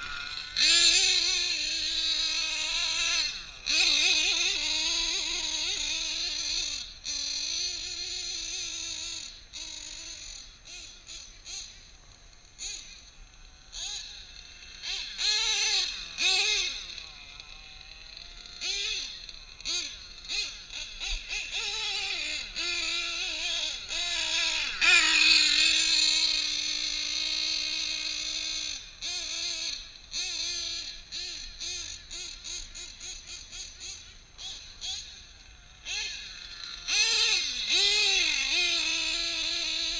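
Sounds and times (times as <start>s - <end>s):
small nitro engine buzzing: 0.0s - 39.9s.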